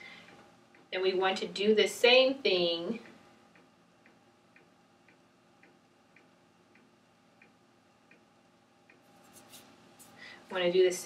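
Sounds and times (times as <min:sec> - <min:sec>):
faint regular ticking: 0:00.0 - 0:10.8.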